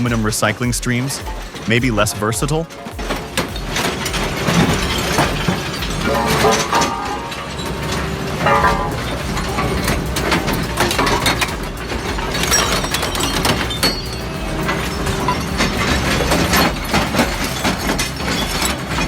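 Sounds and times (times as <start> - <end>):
industrial shredder crunching material: 0.0 - 19.0.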